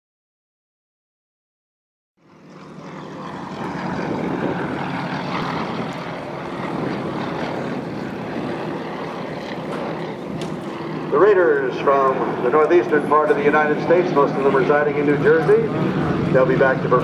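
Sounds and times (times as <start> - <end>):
propeller airplane engine running: 2.2 - 17.0.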